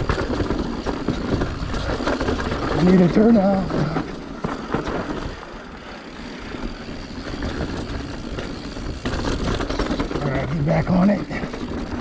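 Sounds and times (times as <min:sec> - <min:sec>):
bike rolling on dirt trail: 0:00.0 - 0:12.0.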